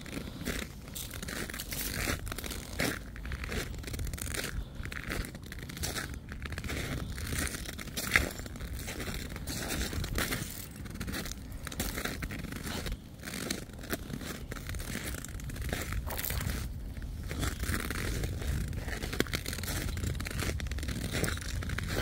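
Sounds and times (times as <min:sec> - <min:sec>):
footsteps crunching in snow: 0:00.0 - 0:22.0.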